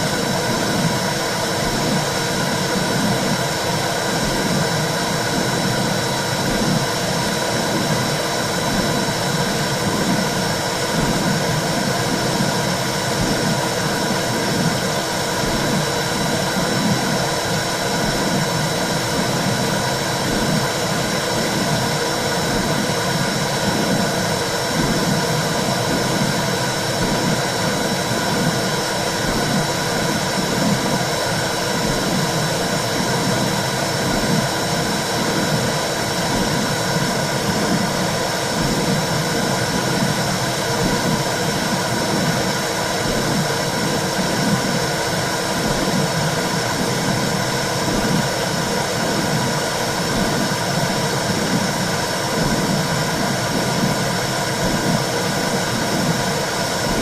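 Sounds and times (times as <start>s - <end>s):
soft low pulse: 0.0s - 57.0s.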